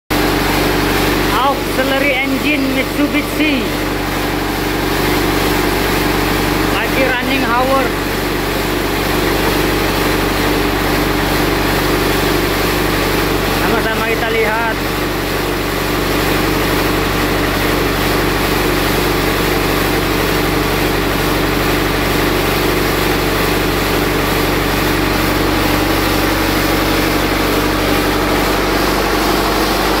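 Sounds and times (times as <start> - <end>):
diesel engine running steadily: 0.1 - 30.0.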